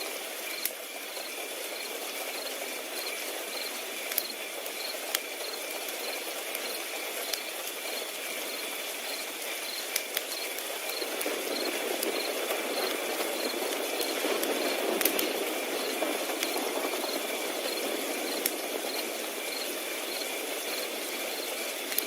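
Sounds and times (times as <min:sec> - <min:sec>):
crickets chirping: 0:00.0 - 0:22.0
wood fire crackling and popping: 0:00.0 - 0:22.0.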